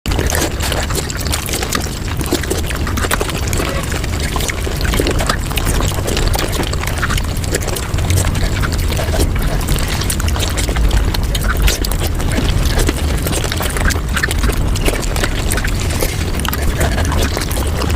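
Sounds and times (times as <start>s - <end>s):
sped-up chewing and mouth sounds: 0.1s - 17.9s
low rumble: 3.4s - 17.9s.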